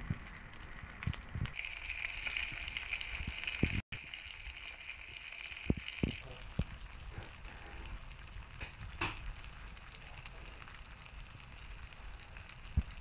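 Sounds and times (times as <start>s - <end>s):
oil pops and crackles: 0.0s - 10.8s
patties sizzling in frying pan: 0.0s - 13.0s.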